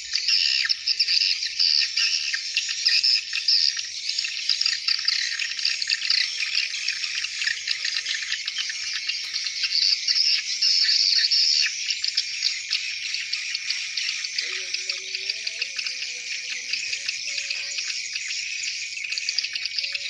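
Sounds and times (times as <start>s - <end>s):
swiftlets twittering: 0.0s - 20.0s.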